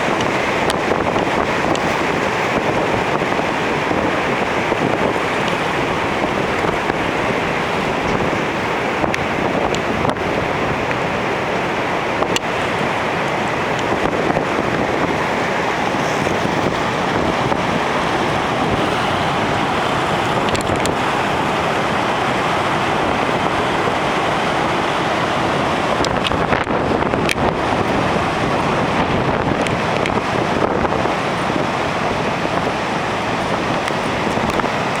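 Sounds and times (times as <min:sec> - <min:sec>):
heavy surf breaking: 0:00.0 - 0:35.0
wind buffeting microphone: 0:00.0 - 0:35.0.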